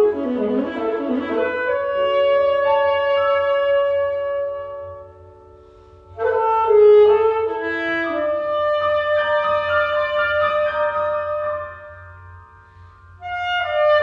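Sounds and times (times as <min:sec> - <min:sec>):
alto saxophone: 0:00.0 - 0:14.0
piano accompaniment: 0:00.0 - 0:14.0.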